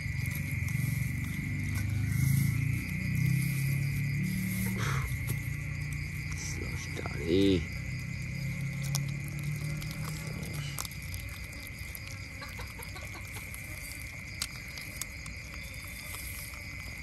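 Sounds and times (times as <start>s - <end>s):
chewing clicks: 0.0s - 17.0s.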